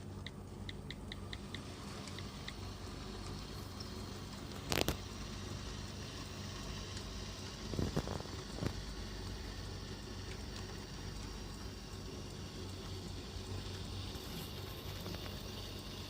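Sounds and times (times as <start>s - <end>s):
model locomotive motor humming: 0.0s - 16.0s.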